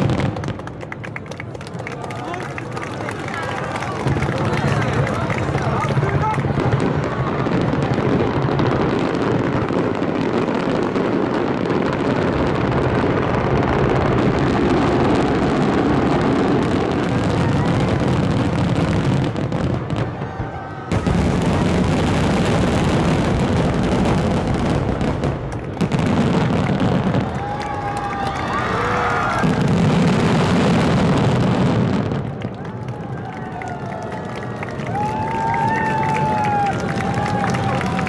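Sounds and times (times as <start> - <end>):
fireworks booming and crackling: 0.0 - 38.0.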